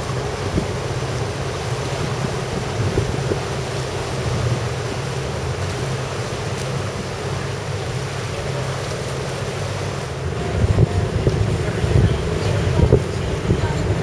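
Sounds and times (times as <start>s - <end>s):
boat engine droning: 0.0s - 14.0s
rushing water: 0.0s - 14.0s
wind noise on microphone: 0.0s - 14.0s.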